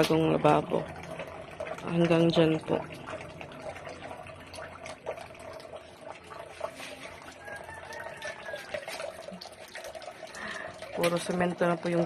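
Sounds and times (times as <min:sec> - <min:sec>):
water drips: 0:00.0 - 0:12.0
water trickling into basin: 0:00.0 - 0:12.0.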